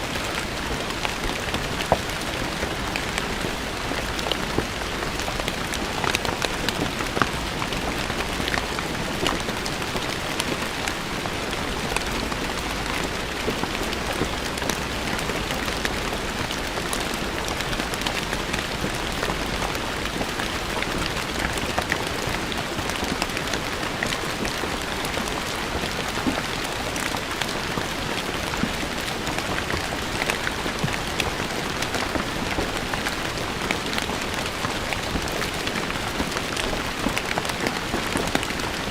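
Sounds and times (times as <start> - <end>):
rain on stone paving: 0.0 - 38.9.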